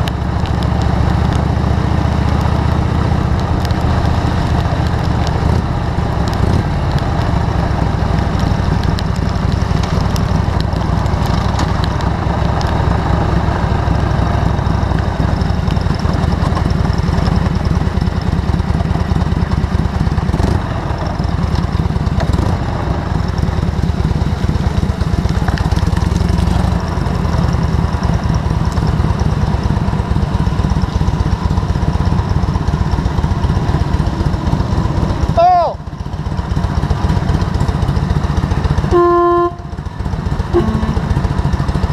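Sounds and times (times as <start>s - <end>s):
vehicle engine rumbling: 0.0s - 41.9s.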